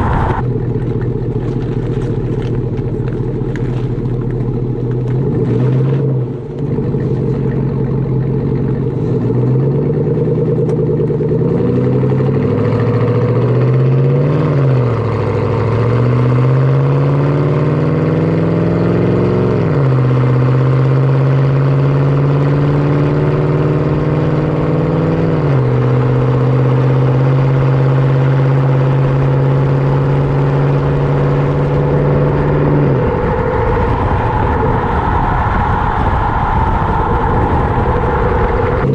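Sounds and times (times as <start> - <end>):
truck engine accelerating: 0.0 - 38.9.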